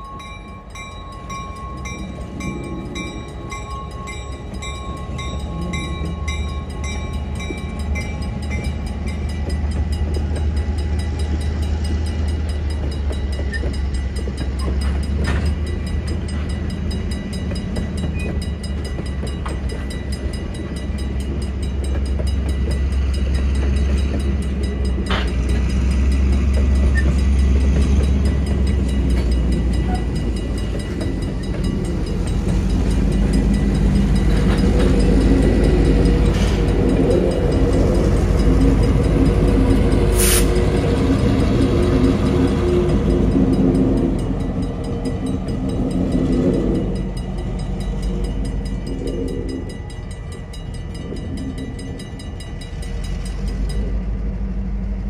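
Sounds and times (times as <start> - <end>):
train rumbling by: 0.0 - 55.0.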